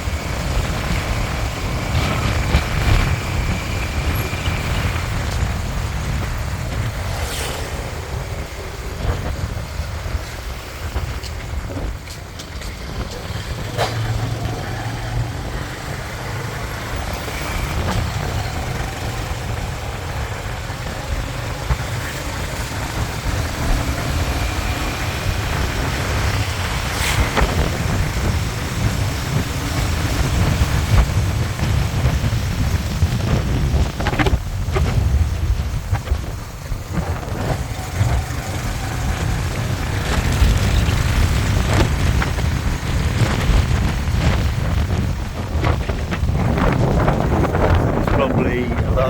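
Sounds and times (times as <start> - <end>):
motorbike hum: 0.0 - 49.0
passing vehicles: 0.0 - 49.0
wind buffeting microphone: 0.0 - 49.0.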